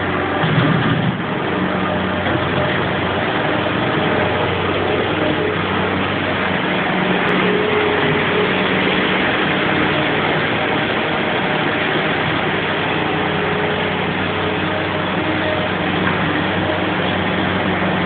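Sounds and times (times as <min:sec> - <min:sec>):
loader engine running: 0:00.0 - 0:18.0
rushing noise of shoveled wheat: 0:00.0 - 0:18.0.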